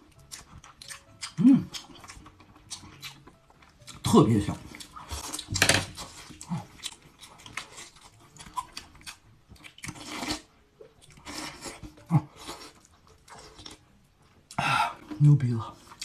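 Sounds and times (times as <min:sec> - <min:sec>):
person chewing: 0:00.0 - 0:16.0.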